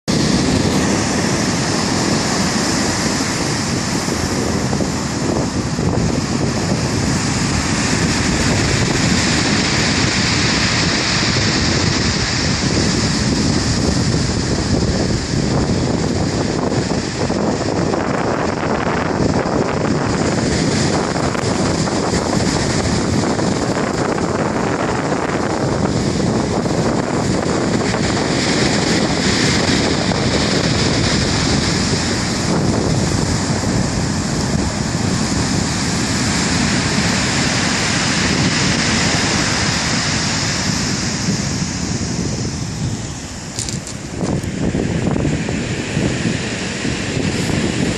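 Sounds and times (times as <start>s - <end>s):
wind buffeting microphone: 0.0s - 47.9s
waves washing in: 0.1s - 47.9s.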